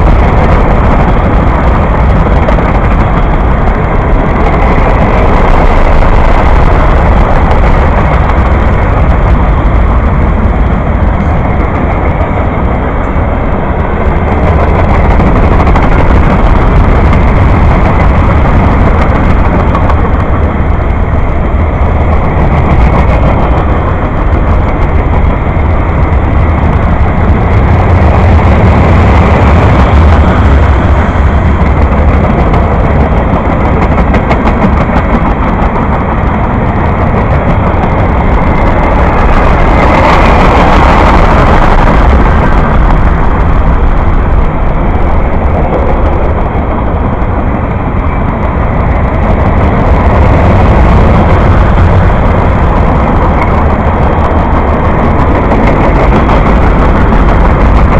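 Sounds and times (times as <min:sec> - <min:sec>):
train rumbling past: 0:00.0 - 0:57.9.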